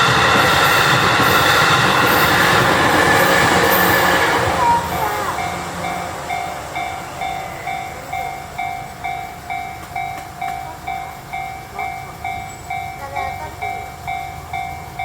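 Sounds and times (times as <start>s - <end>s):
crossing bell clanging: 0.0s - 15.0s.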